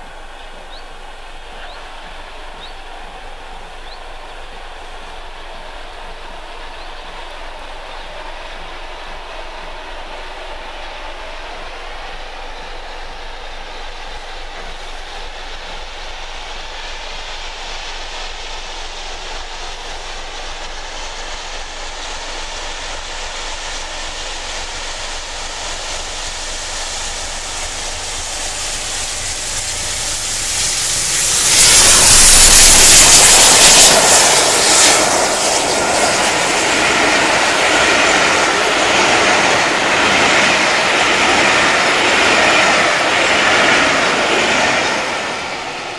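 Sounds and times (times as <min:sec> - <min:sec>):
coaches rolling on rails: 0:00.0 - 0:45.9
steam locomotive passing: 0:00.0 - 0:45.9.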